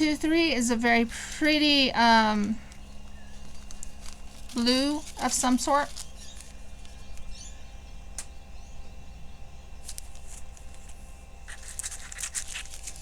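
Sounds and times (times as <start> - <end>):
plastic baggies crinkling: 0.0 - 7.5, 9.8 - 13.0.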